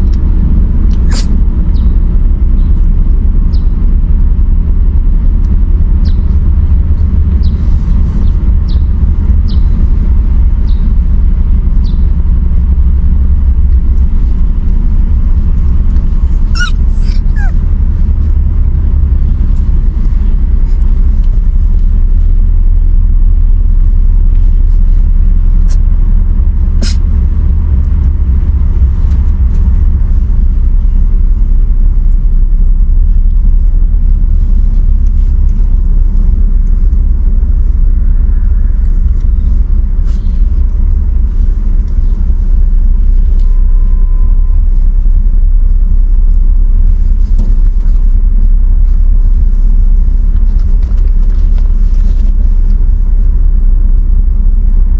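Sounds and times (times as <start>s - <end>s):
low rumble: 0.0s - 54.9s.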